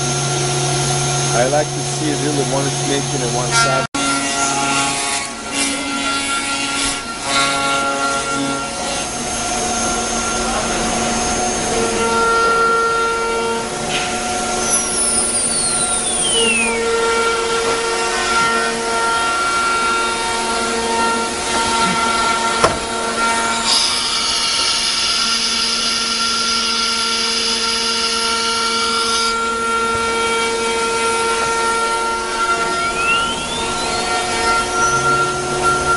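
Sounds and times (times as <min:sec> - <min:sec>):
high whine falling in pitch: 0:00.0 - 0:03.9, 0:07.0 - 0:27.8, 0:28.8 - 0:35.9
whining tones: 0:00.0 - 0:35.9
wood router cutting wood: 0:00.0 - 0:35.9.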